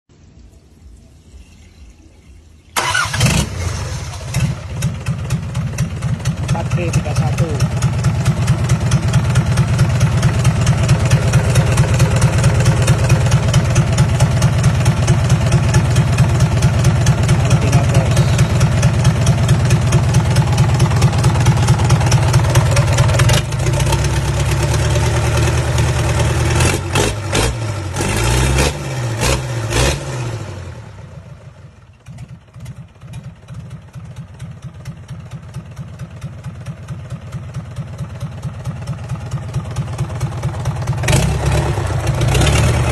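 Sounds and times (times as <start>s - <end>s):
diesel engine idling and revving: 2.8s - 42.9s.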